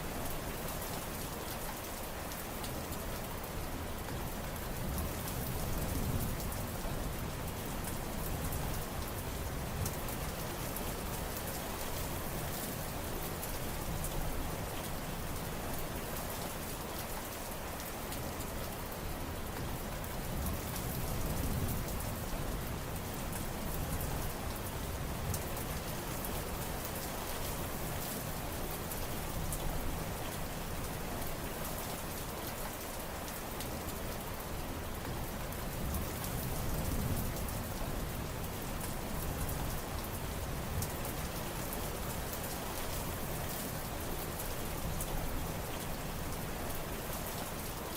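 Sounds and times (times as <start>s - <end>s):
rain pattering on surfaces: 0.0s - 47.9s.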